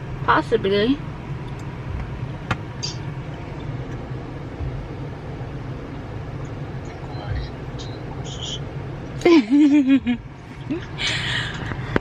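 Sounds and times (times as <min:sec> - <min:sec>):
car rumble: 0:00.0 - 0:12.0.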